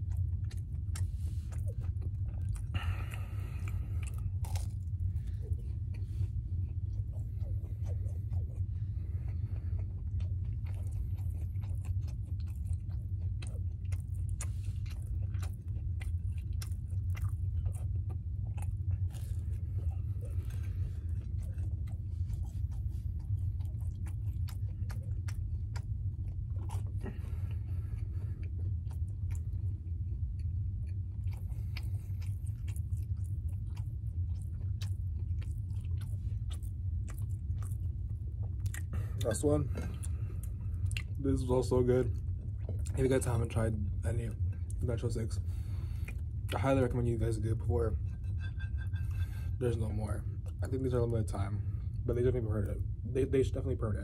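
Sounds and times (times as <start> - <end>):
person chewing food: 0.0 - 53.7
low hum: 0.0 - 54.0.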